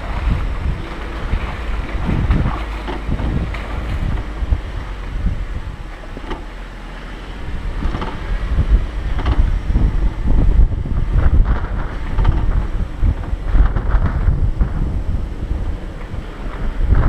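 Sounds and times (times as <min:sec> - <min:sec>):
knocks and rattles over bumps: 0:00.0 - 0:17.0
off-road vehicle rumble: 0:00.0 - 0:17.0
wind buffeting microphone: 0:00.0 - 0:17.0.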